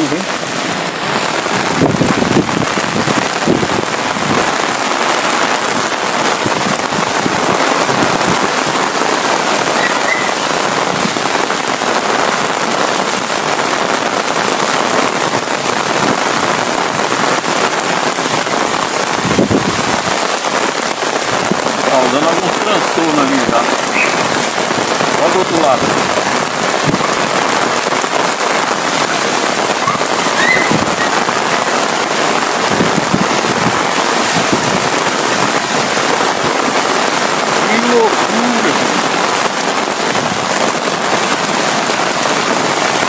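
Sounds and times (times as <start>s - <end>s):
heavy rain on pavement: 0.0s - 43.0s.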